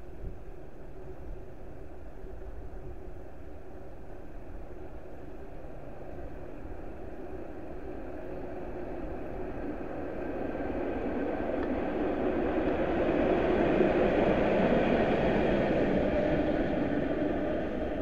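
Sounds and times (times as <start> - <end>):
train passing with rail noise: 0.0 - 18.0.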